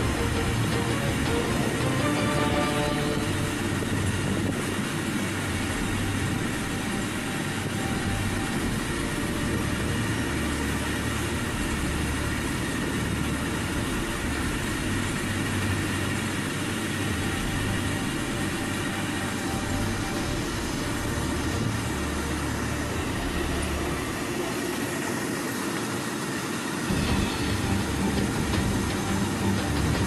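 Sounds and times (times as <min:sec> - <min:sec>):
freight train wheels rumbling on rails: 0:00.0 - 0:30.0.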